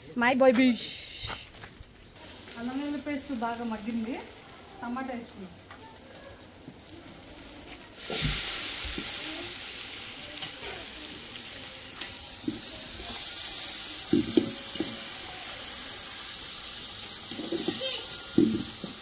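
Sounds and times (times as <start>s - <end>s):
loud sizzle in hot oil: 2.2s - 19.0s.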